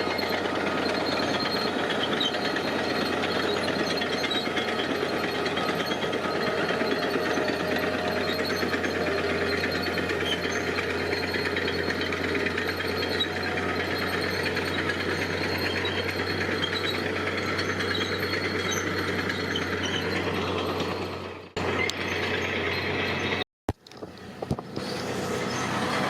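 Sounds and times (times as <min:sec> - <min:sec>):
diesel engine of construction machinery: 0:00.0 - 0:26.0.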